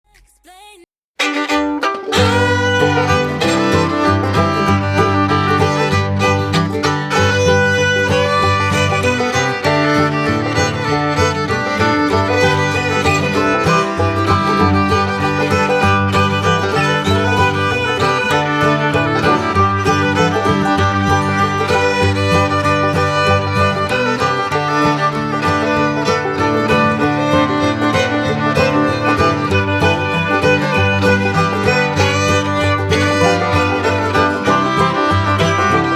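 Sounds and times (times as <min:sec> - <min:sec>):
fiddle tune: 0:01.2 - 0:35.9
plucked strings: 0:01.2 - 0:35.9.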